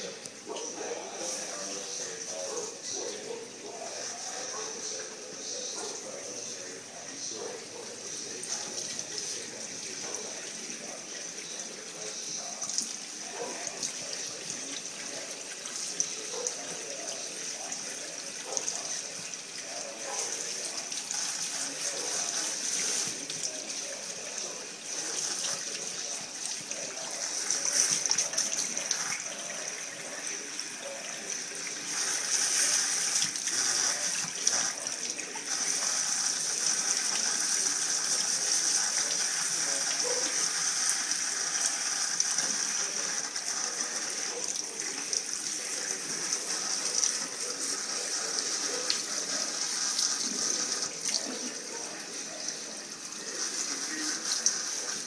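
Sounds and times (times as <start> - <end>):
tap water splashing into sink: 7.6 - 55.0.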